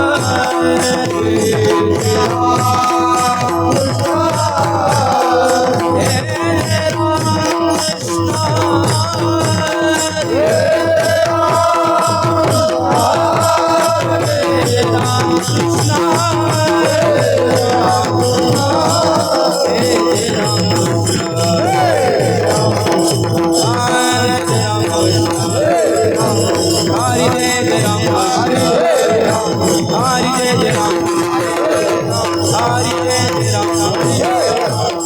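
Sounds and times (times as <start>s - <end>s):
person singing ornamented phrases: 0.0s - 35.0s
small hand cymbals jingling: 0.0s - 35.0s.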